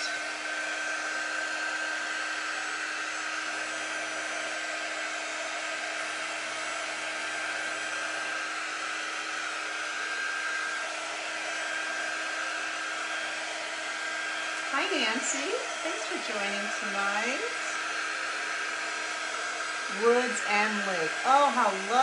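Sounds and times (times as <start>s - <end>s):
heat gun blowing air: 0.0s - 22.0s.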